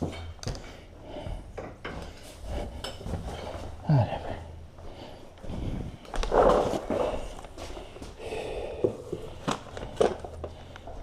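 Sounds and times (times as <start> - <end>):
man breathing heavily: 0.0 - 11.0.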